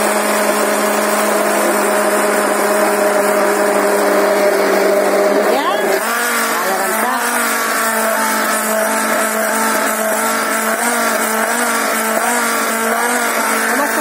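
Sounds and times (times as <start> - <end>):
immersion blender motor humming: 0.0 - 14.0.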